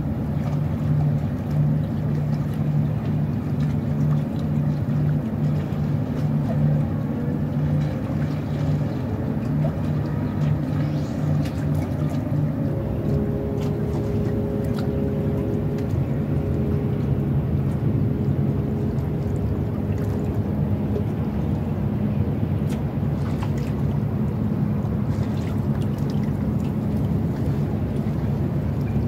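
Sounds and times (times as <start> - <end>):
boat engine rumbling: 0.0 - 29.0
faint higher hum: 0.0 - 29.0.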